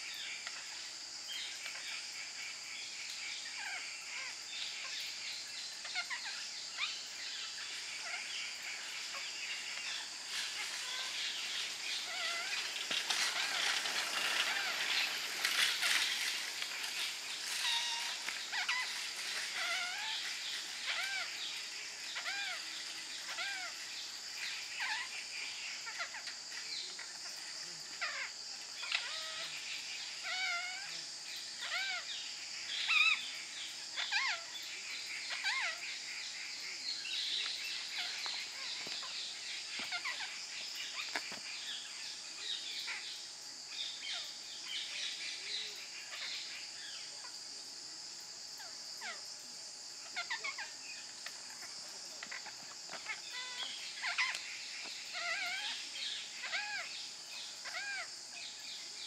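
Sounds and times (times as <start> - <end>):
high-pitched insect drone: 0.0 - 59.0
birds calling: 2.8 - 47.4, 49.9 - 59.0.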